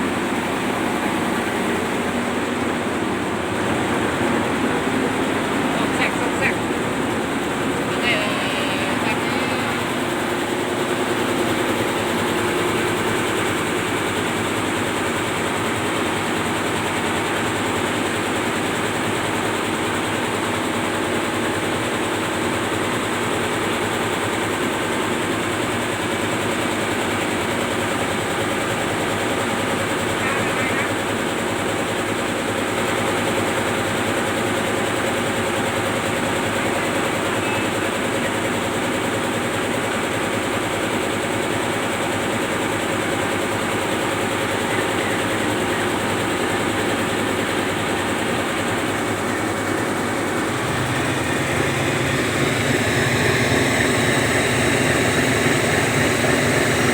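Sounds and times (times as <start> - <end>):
marine diesel engine droning: 0.0 - 56.9.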